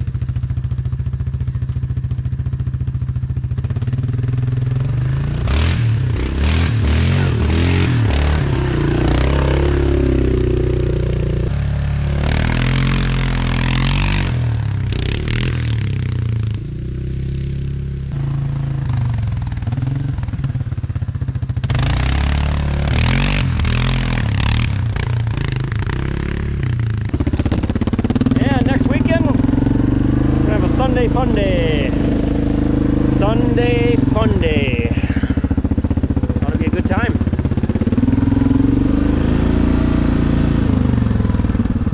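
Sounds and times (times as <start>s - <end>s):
vehicle engine revving: 3.6s - 41.9s.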